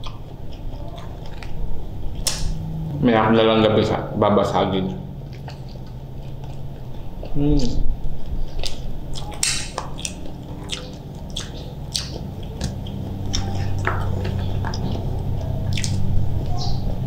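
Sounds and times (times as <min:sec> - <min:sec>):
wet chewing: 0:00.0 - 0:03.0, 0:04.8 - 0:17.0.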